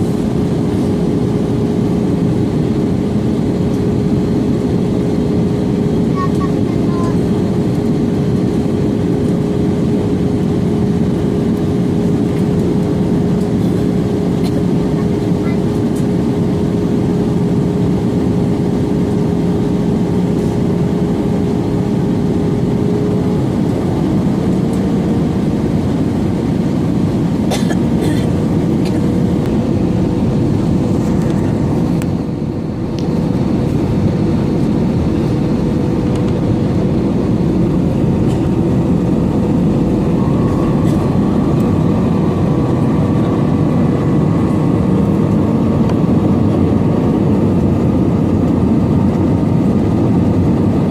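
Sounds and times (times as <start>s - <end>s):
airplane cabin engine rush: 0.0s - 50.9s.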